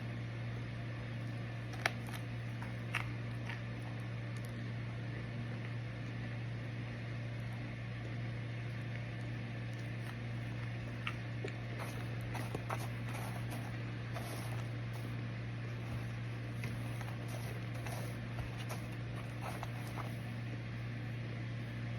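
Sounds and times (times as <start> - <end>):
microwave oven humming: 0.0 - 21.9.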